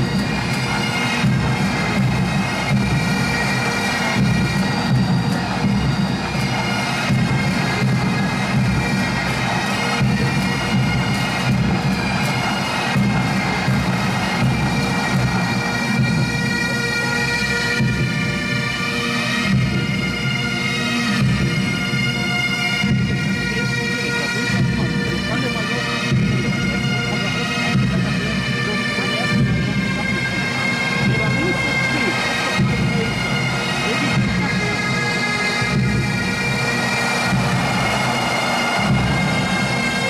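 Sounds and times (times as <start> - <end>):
bagpipes playing: 0.0 - 40.0.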